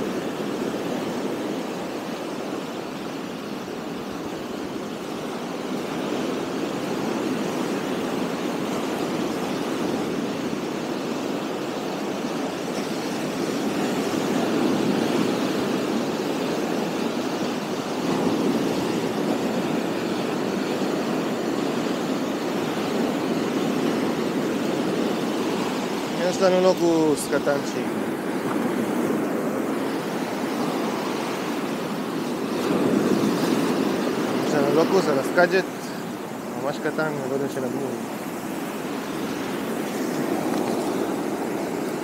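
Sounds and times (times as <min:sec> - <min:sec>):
surf breaking on beach: 0:00.0 - 0:42.0.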